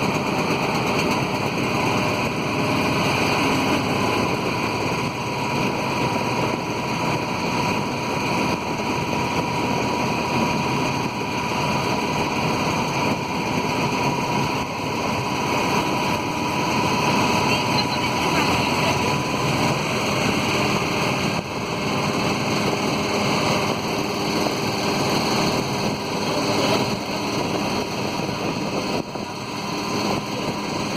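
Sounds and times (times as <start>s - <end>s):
motorboat engine running: 0.0s - 30.9s
thin steady whine: 0.0s - 30.9s
water noise: 0.0s - 30.9s
wind: 0.0s - 30.9s.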